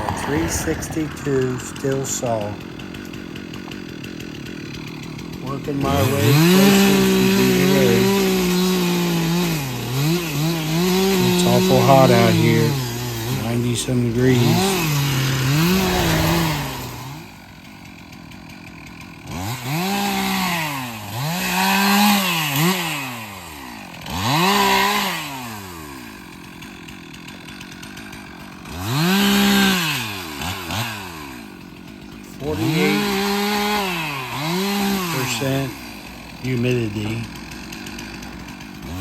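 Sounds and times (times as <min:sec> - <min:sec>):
chainsaw revving: 0:00.0 - 0:39.0.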